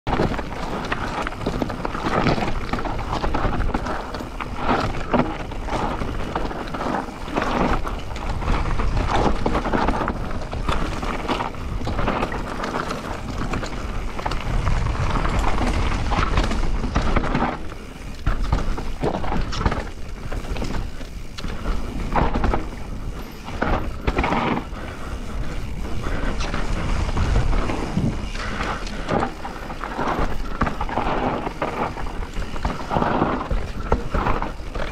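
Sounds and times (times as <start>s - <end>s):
bike clattering over bumps: 0.1s - 34.9s
bike tyres skidding on dirt: 0.1s - 34.9s
wind on microphone: 0.3s - 34.9s.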